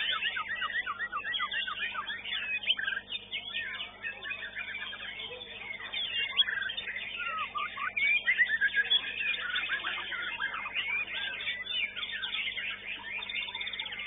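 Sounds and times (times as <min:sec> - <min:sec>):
birds singing whistles and chirps: 0:00.0 - 0:14.0.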